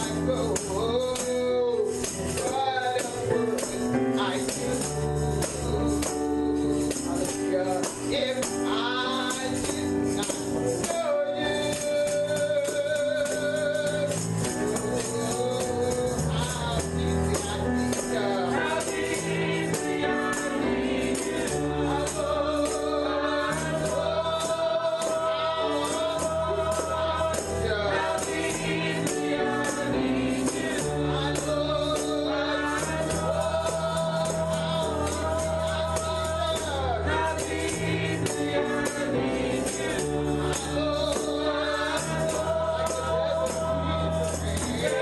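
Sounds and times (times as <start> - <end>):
choir singing gospel: 0.0 - 45.0
tambourine shaken: 0.0 - 45.0.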